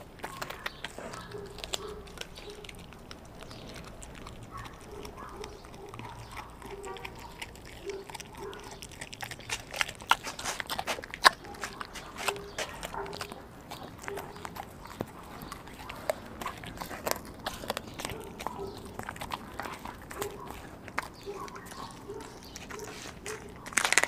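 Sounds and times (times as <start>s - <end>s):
dog crunching bones: 0.0s - 24.0s
loud bone crack: 0.0s - 24.0s.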